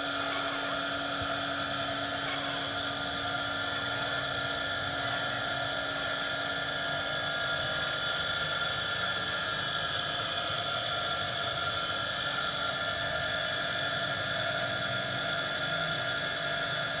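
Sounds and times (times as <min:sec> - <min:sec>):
steady mechanical drone: 0:00.0 - 0:17.0.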